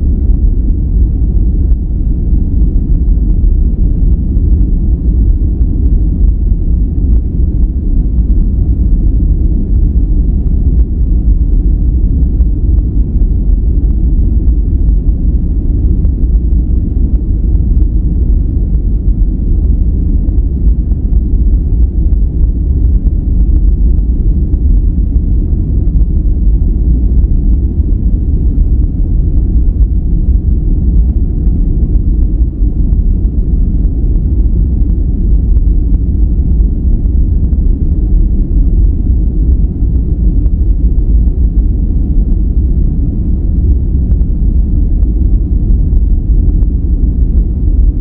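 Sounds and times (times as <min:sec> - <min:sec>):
deep even noise rumble: 0:00.0 - 0:48.0.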